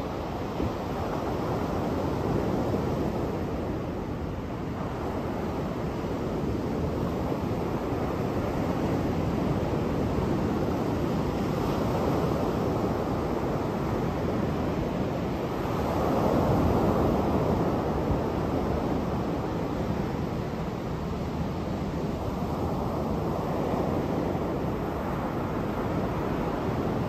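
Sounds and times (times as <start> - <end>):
surf washing up beach: 0.0 - 27.0.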